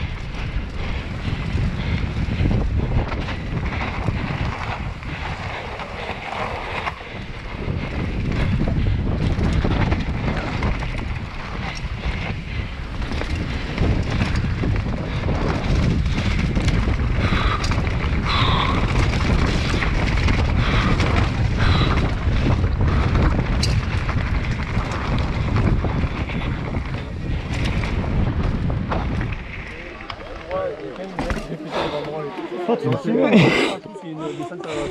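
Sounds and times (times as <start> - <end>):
wind rumble on microphone: 0.0 - 31.8
bike tyre noise on dirt: 0.0 - 32.7
bike knocks and rattles: 0.4 - 29.8, 30.9 - 31.5.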